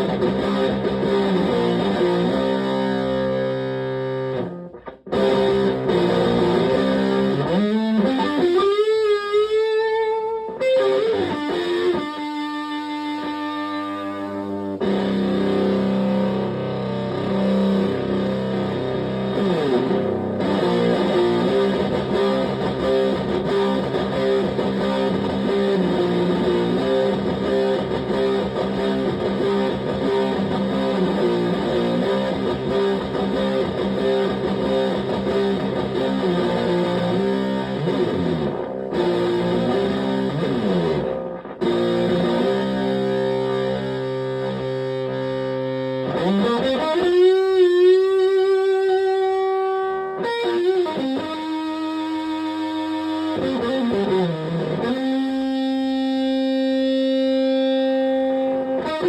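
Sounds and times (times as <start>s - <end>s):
fuzzed electric guitar riffs: 0.0s - 59.0s.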